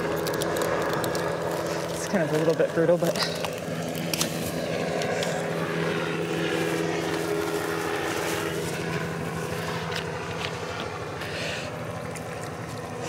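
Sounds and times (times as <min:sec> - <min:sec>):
helicopter engine and rotor hum: 0:00.0 - 0:13.0.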